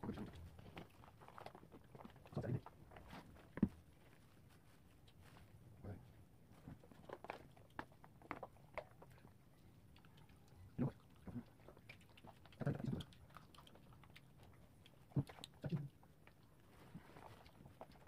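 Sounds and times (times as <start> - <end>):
people chewing: 0.0 - 5.6, 6.6 - 18.0.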